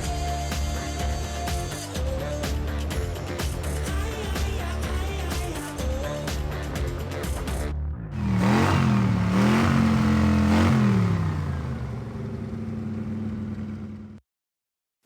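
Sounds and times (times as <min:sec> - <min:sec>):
rotary engine revving and idling: 0:00.2 - 0:14.2.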